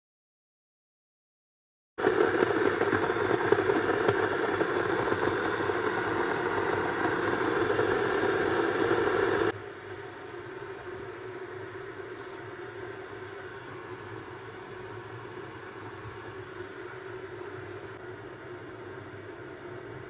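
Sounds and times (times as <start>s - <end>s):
machine whirring hum: 2.0s - 20.0s.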